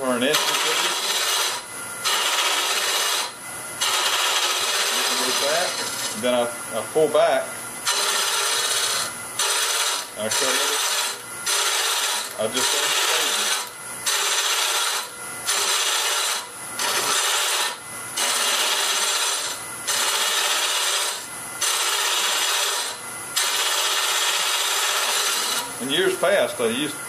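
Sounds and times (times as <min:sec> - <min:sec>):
lathe cutter rasping wood: 0:00.0 - 0:06.5, 0:07.8 - 0:26.2.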